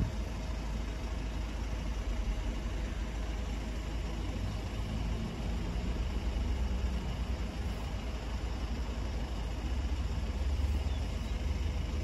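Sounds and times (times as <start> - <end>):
low traffic rumble: 0.0 - 12.0
vehicle engines idling and running: 0.0 - 12.0.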